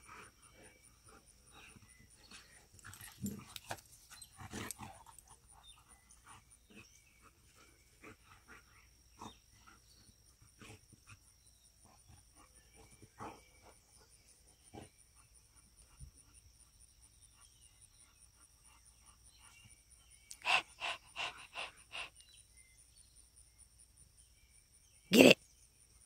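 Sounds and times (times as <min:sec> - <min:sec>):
dogs play-fighting: 0:00.0 - 0:22.2.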